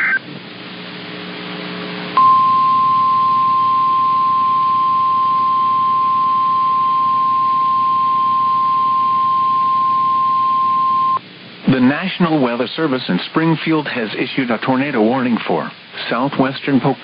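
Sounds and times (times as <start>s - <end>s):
steady pure warning tone: 0.0s - 14.0s
low hum and hiss: 0.0s - 17.0s.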